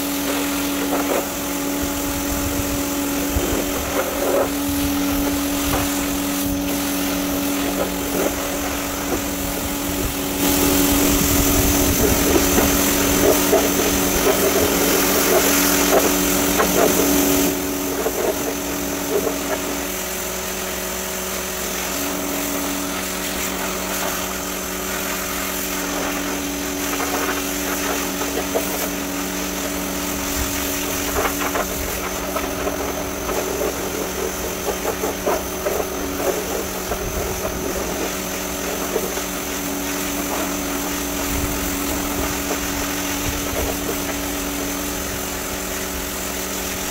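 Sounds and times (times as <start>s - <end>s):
pressure washer spraying: 0.0s - 46.9s.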